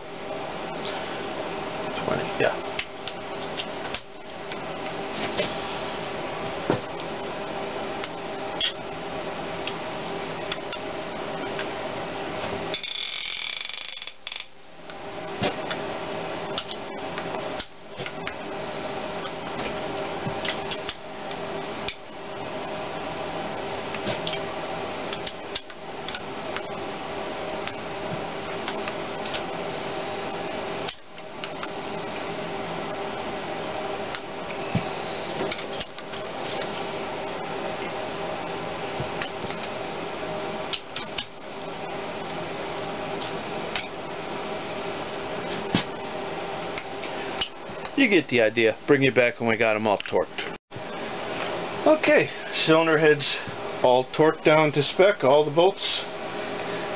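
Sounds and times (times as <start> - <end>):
steady hum: 0.0 - 56.9.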